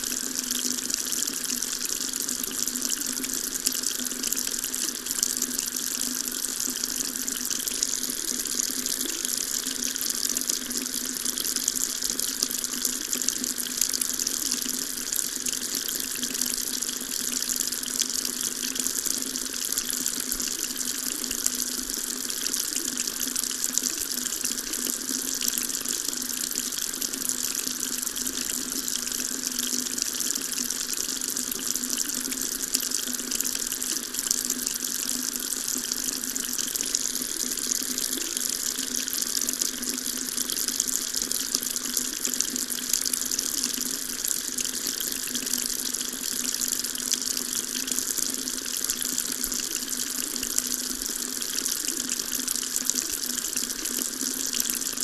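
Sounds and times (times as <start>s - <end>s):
water tap running into sink: 0.0s - 55.0s.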